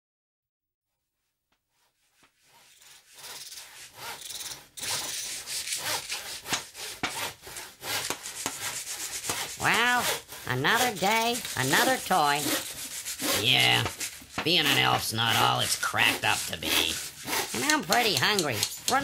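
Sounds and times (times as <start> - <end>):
wood scraping strokes: 1.6 - 19.0.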